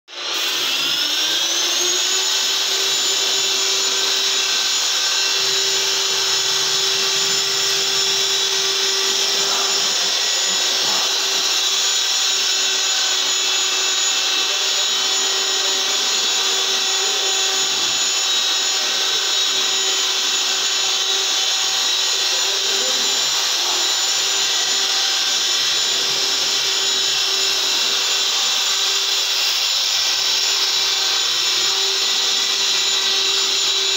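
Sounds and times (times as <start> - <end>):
electric sander whining: 0.1 - 33.9.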